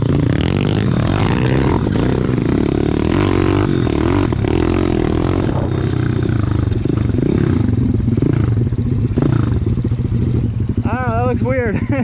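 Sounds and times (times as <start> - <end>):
bike rattling: 0.0 - 12.0
small motorcycle engine running: 0.0 - 12.0.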